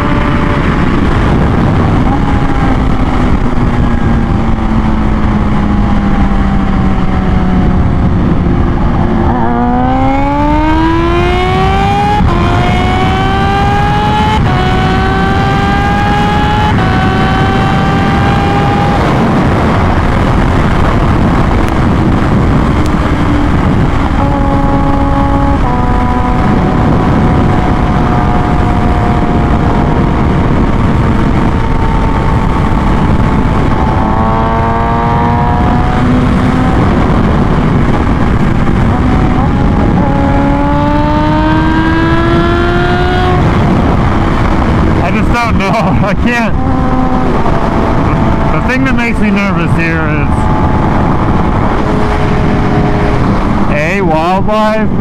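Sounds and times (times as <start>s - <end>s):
motorcycle engine pulling hard: 0.0s - 55.0s
wind noise: 0.0s - 55.0s.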